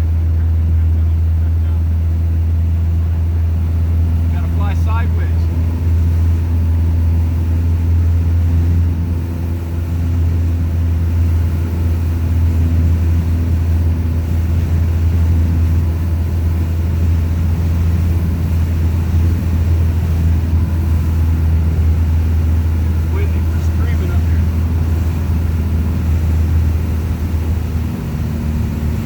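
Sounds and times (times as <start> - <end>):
light aircraft engine droning: 0.0 - 29.0.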